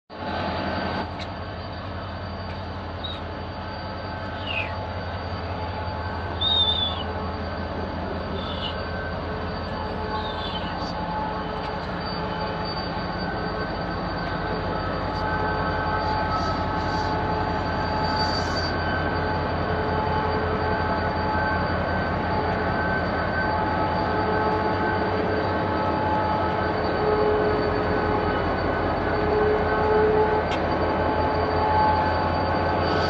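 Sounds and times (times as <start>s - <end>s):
diesel locomotive engine humming: 0.1s - 33.0s
wheels squealing on rails: 0.1s - 33.0s.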